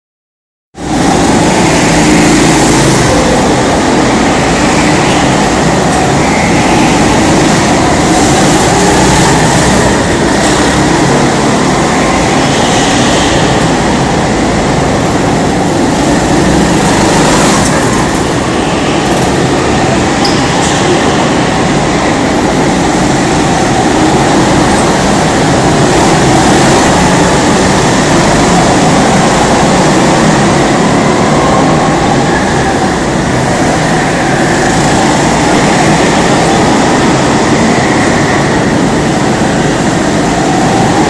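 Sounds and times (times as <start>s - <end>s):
go-kart engines droning: 0.8s - 41.0s.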